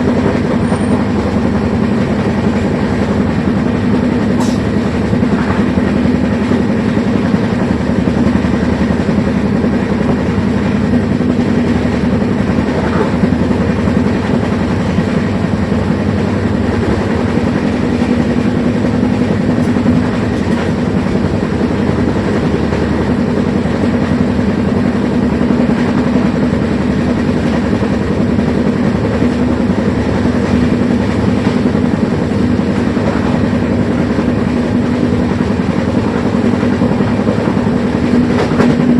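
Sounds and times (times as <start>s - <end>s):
train wheels clattering on track: 0.0s - 38.9s.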